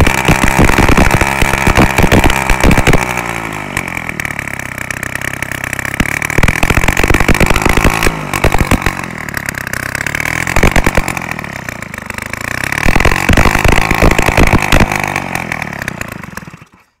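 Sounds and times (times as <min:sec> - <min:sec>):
moped engine revving: 0:00.0 - 0:17.0.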